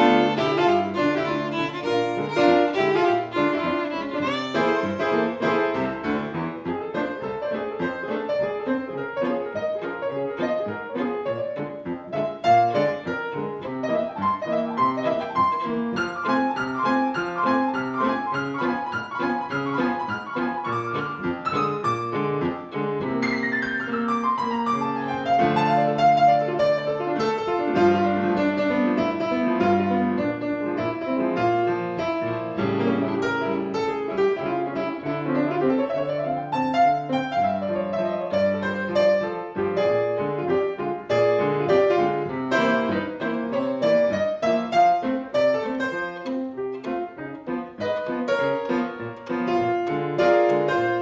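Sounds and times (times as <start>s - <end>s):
bowed violin melody: 0.0s - 51.0s
piano chords and runs: 0.0s - 51.0s.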